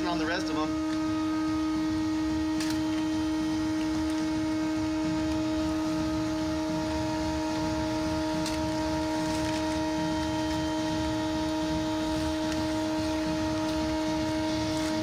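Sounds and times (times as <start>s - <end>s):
steady hum of fixed tones: 0.0s - 15.0s.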